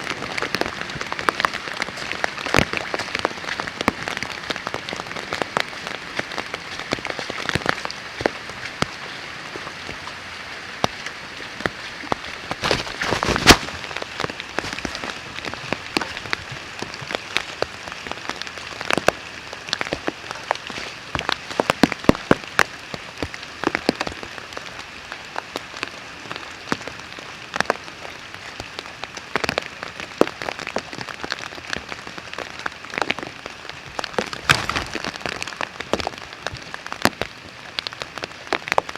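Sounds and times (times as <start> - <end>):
heavy rain falling: 0.0 - 38.9
raindrops clicking close by: 0.0 - 38.9.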